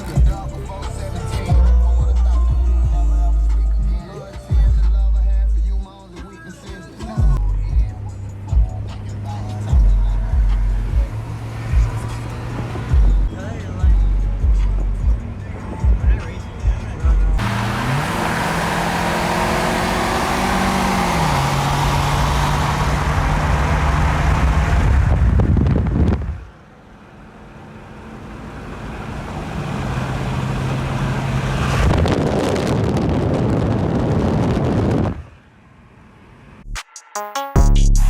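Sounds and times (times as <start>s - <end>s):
car engine running under load: 0.0s - 36.6s
road and wind noise: 0.0s - 36.7s.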